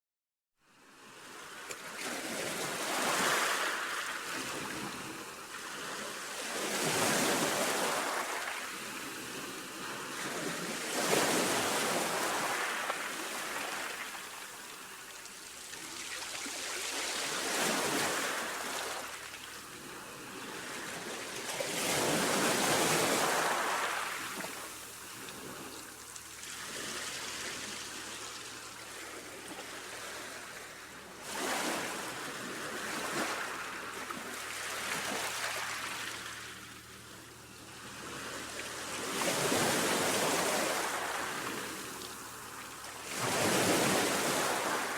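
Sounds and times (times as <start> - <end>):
waves breaking on shore: 1.3 - 36.9, 37.8 - 44.9.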